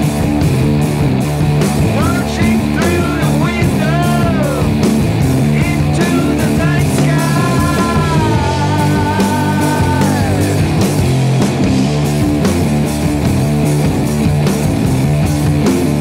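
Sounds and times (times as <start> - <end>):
drum beat: 0.0 - 16.0
electric guitar chords: 0.0 - 16.0
swooping lead guitar line: 0.0 - 16.0.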